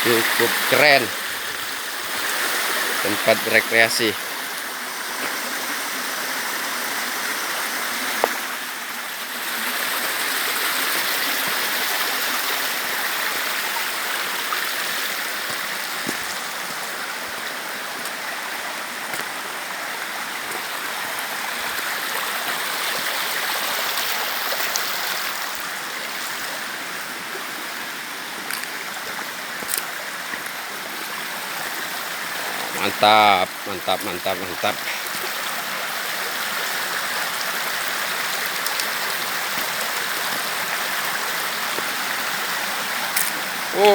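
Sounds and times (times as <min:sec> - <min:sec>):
stream water running over rocks: 0:00.0 - 0:43.9.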